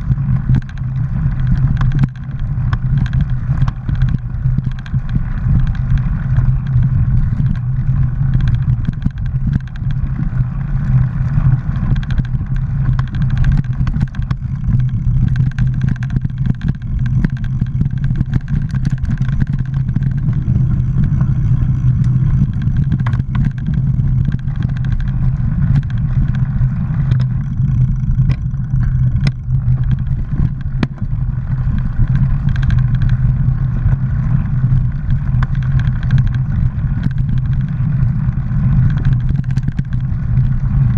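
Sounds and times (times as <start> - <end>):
bike rattling and clicking: 0.0 - 40.9
wind rumble on microphone: 0.0 - 40.9.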